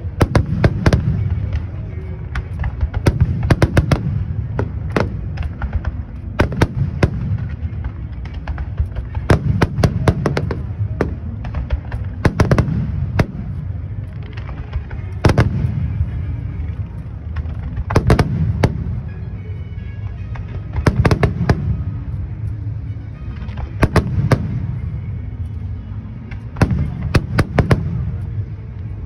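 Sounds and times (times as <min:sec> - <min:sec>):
fireworks bursting with sharp bangs: 0:00.0 - 0:29.0.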